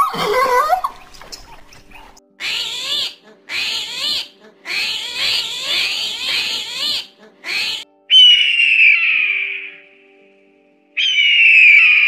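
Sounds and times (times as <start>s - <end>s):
armadillo squeaky calls: 0.3s - 9.7s, 11.0s - 12.0s.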